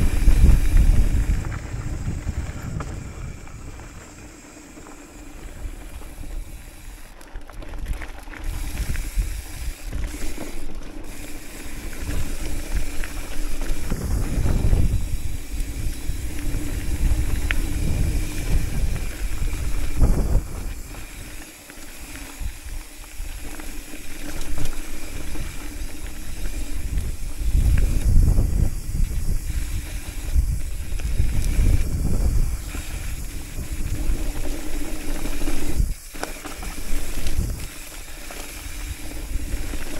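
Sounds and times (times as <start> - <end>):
bike rattling over rough ground: 0.0 - 39.9
bike tyre and wind rush: 0.0 - 39.9.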